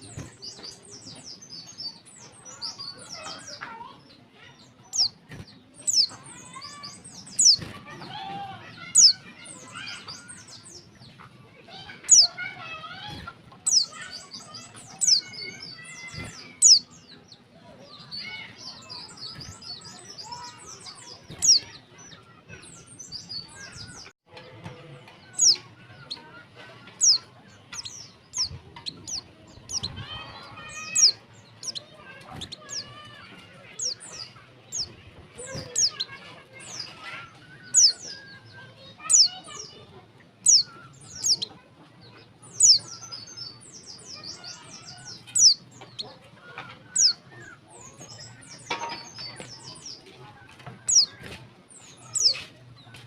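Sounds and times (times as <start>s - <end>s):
bird warbling chatter: 0.0s - 53.0s.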